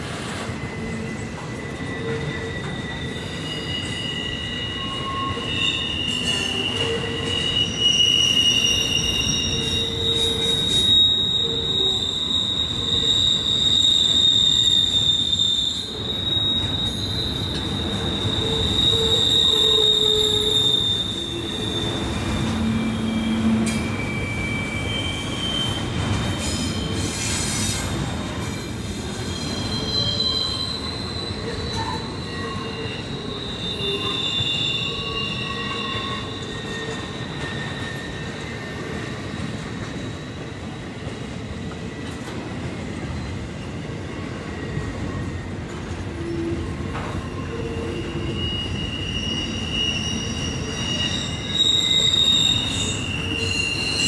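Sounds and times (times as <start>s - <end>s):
train wheels squealing: 0.0s - 54.0s.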